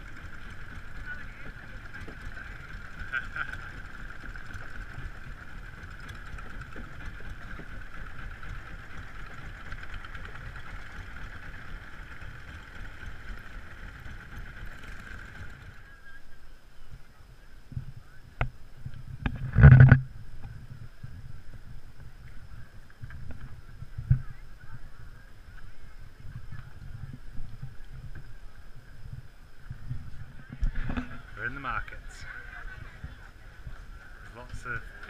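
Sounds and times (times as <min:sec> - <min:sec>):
boat engine running: 0:00.0 - 0:16.2, 0:17.7 - 0:35.0.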